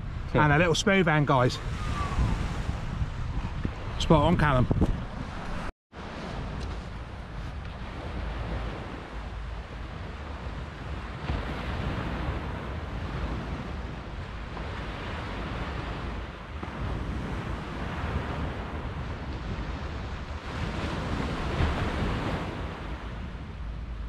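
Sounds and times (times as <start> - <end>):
low wind rumble: 0.0 - 24.0
sea surf washing up beach: 0.0 - 24.0.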